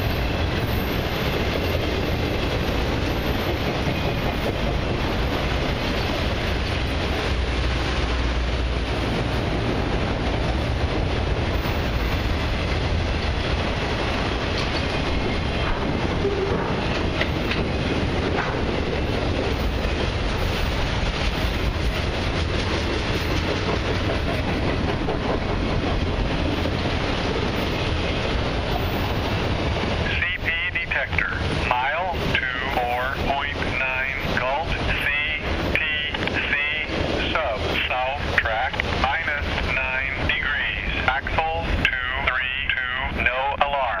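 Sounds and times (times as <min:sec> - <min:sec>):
steel wheels on rails: 0:00.0 - 0:43.2.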